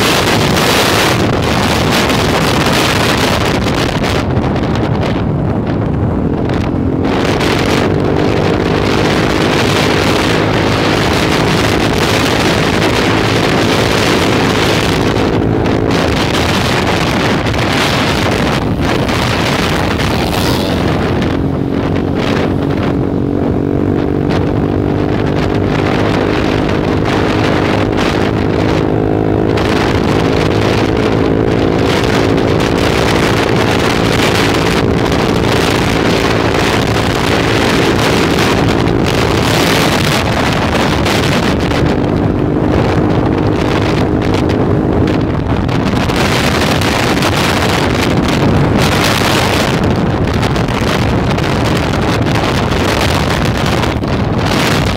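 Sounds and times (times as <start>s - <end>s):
scooter engine running: 0.0s - 54.9s
wind buffeting microphone: 0.0s - 54.9s.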